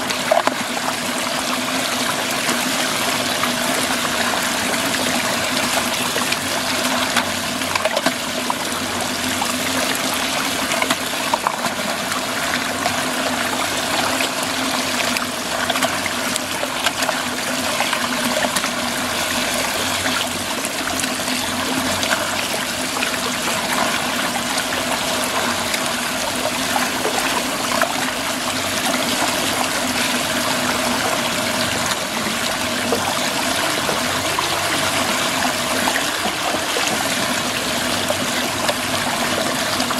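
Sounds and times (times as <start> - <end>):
faint steady hum: 0.0 - 39.9
small water splashes: 0.0 - 39.9
water rushing down a drain: 0.0 - 39.9.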